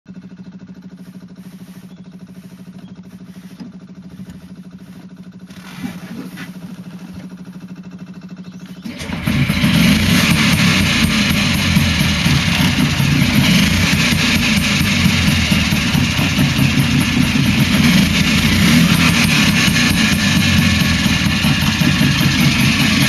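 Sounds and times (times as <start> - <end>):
two-stroke engine running: 0.1 - 23.0.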